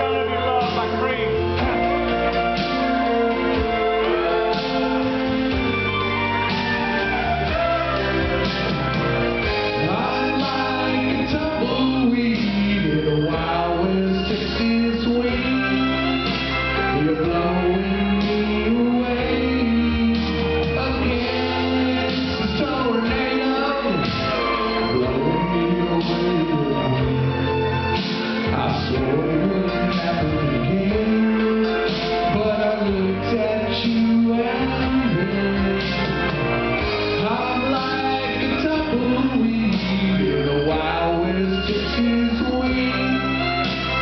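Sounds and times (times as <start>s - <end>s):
live country band with guitars: 0.0s - 44.0s.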